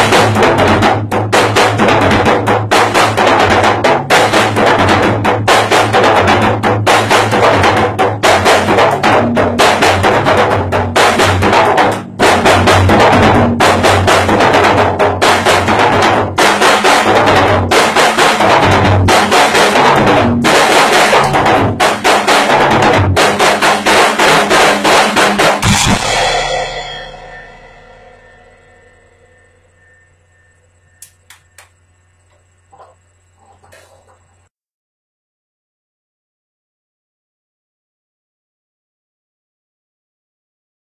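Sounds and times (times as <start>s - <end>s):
drum kit groove: 0.0s - 32.8s.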